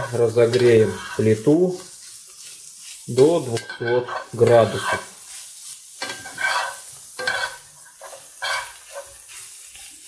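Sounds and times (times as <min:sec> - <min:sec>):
spoon scraping a pan: 0:00.0 - 0:10.0
vegetables sizzling in oil: 0:00.0 - 0:10.0.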